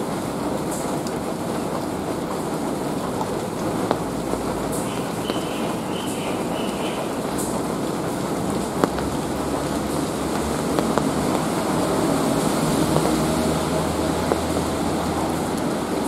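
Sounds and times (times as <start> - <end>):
low rumble of traffic: 0.0 - 16.0
steady rain falling: 0.0 - 16.0
water drips ticking: 0.0 - 16.0.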